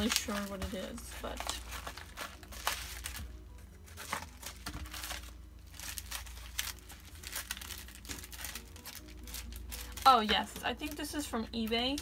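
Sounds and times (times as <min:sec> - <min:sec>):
paper and plastic packaging crinkling: 0:00.0 - 0:12.0.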